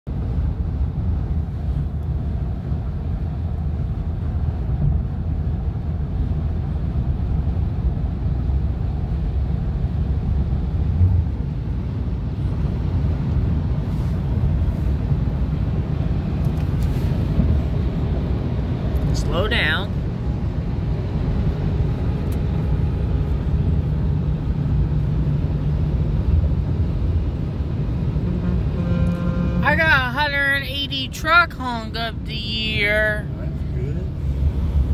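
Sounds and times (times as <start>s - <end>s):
road rumble and tyre noise: 0.0s - 34.9s.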